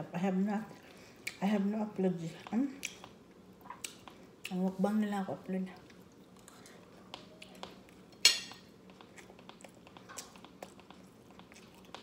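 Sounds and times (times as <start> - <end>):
soft chewing: 0.6 - 4.9, 5.6 - 12.0.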